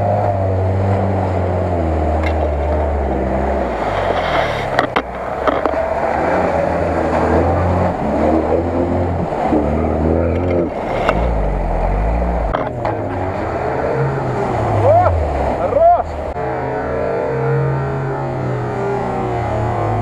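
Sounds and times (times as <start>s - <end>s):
off-road engines revving: 0.0s - 20.0s
tyres churning through mud: 0.0s - 20.0s.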